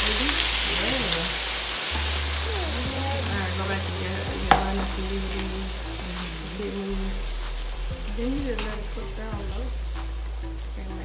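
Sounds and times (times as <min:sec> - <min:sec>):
meat and onions sizzling in skillet: 0:00.0 - 0:11.0.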